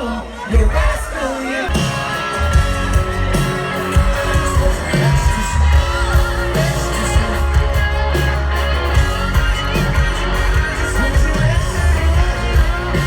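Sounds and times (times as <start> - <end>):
country-rock music: 0.0 - 13.0.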